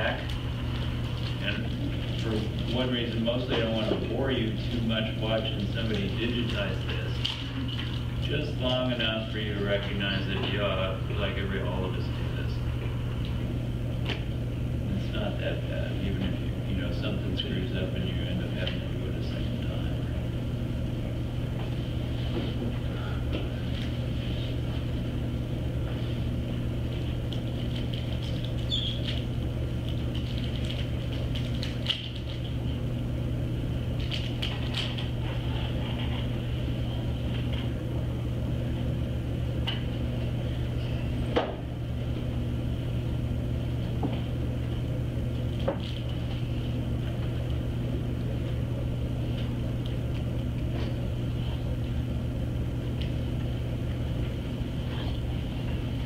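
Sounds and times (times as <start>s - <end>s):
machinery room hum: 0.0s - 56.0s.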